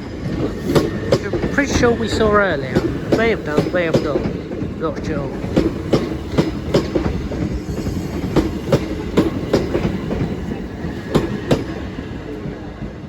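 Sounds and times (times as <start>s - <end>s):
train rumble: 0.0s - 13.0s
train wheels clickety-clack: 0.0s - 13.0s.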